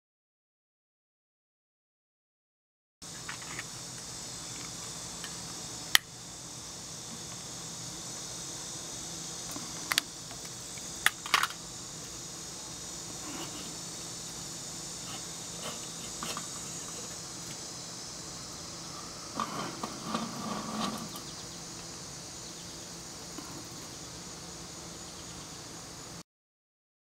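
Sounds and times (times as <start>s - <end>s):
high-pitched insect chorus: 3.0s - 26.2s.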